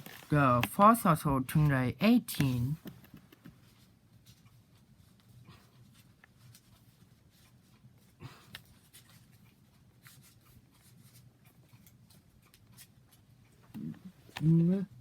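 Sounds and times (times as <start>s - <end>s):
soft rustle: 0.0s - 1.0s, 2.5s - 15.0s.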